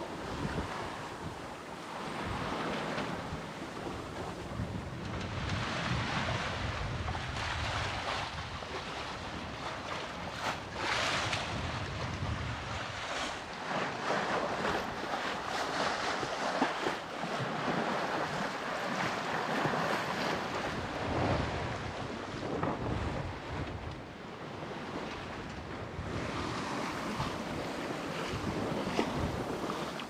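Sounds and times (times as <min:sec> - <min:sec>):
water splashing along boat hull: 0:00.0 - 0:30.0
wind buffeting microphone: 0:00.0 - 0:30.0.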